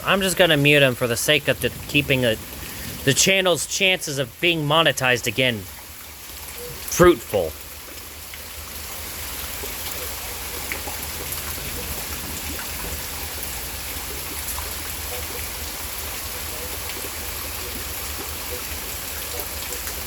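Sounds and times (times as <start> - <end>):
raindrop ticks: 0.0 - 20.0
steady rain hiss: 0.0 - 20.0.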